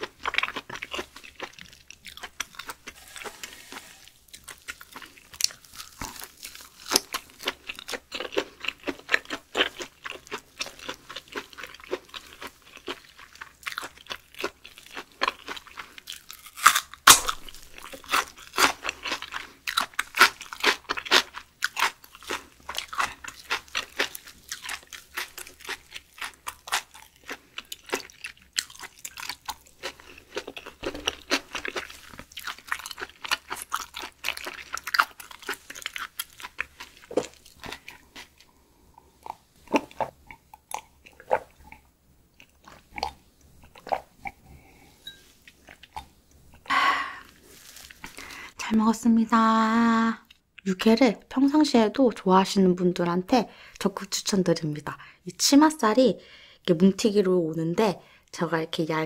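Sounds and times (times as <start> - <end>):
person chewing crunchy food: 0.0 - 48.6.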